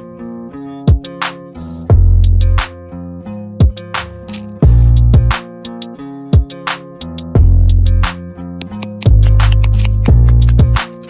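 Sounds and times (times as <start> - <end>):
electronic music with plucked guitar: 0.0 - 11.0.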